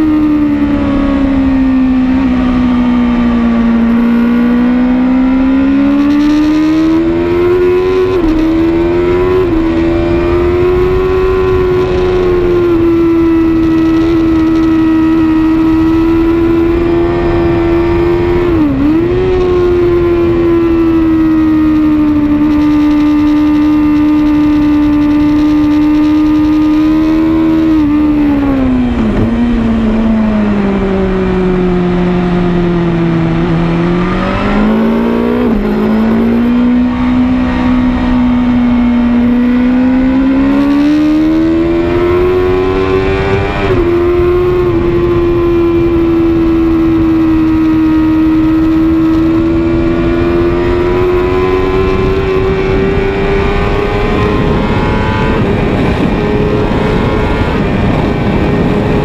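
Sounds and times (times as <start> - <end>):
motorcycle engine revving: 0.0 - 59.0
wind rush: 5.5 - 59.0.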